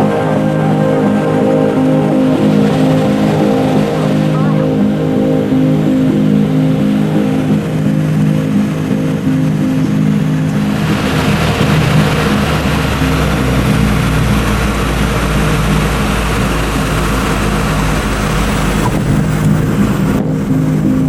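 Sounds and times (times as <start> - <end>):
aircraft engine drone: 0.0 - 21.0
rush of airflow: 1.1 - 21.0.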